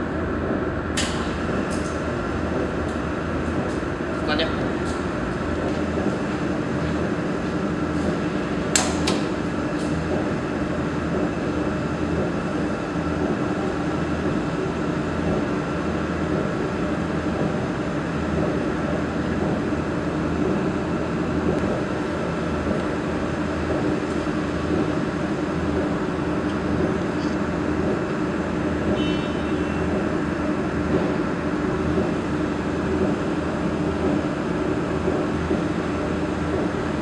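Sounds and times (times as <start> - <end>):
welding machine and chiller hum: 0.0 - 37.0.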